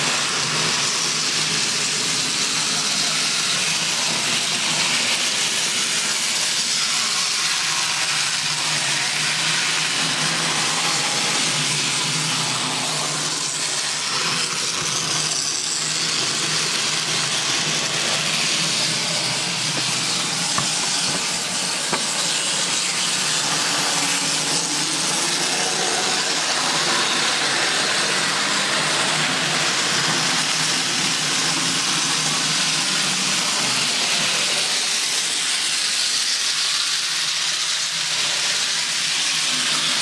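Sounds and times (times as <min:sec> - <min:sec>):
model train motors whirring: 0:00.0 - 0:40.0.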